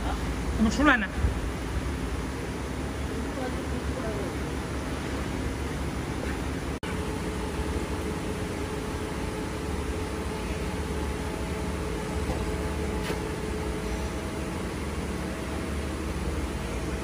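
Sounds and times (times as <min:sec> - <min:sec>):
faint constant whine: 0:00.0 - 0:17.0
machinery hum and hiss: 0:00.0 - 0:17.0.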